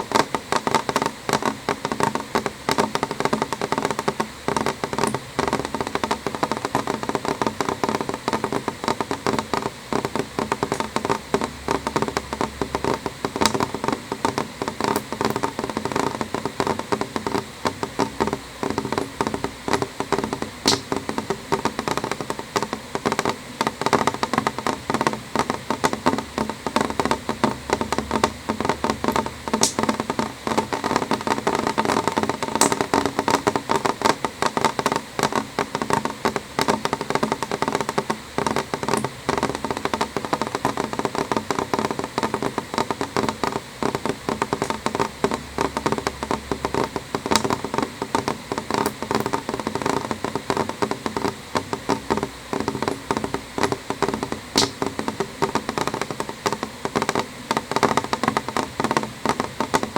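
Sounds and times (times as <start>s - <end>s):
raindrops tapping on window glass: 0.0s - 59.9s.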